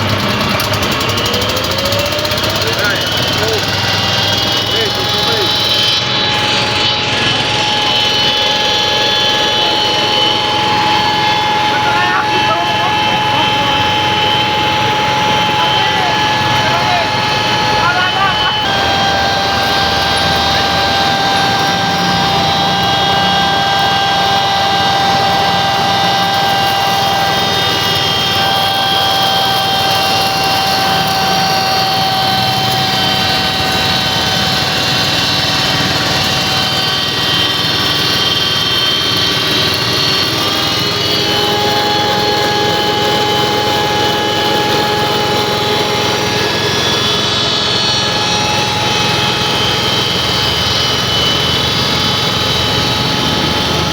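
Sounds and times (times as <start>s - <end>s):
grinder mill running: 0.0s - 53.9s.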